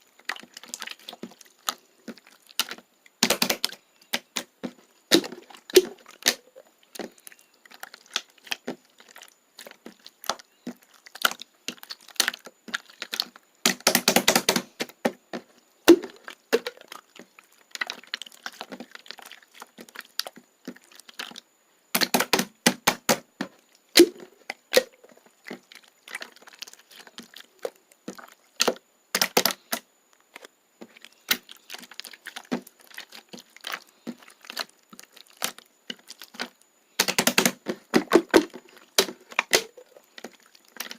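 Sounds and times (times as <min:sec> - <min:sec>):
slime clicking and crackling: 0:00.0 - 0:21.4, 0:24.0 - 0:40.9.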